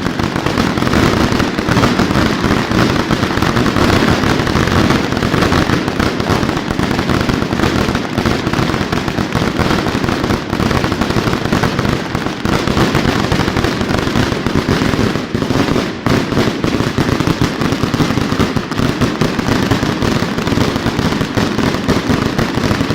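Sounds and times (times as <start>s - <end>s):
fireworks barrage bangs and crackling: 0.0s - 22.9s.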